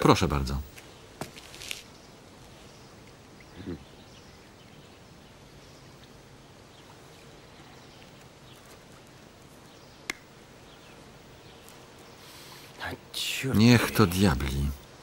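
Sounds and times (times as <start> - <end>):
faint bird chirps: 1.8 - 15.0.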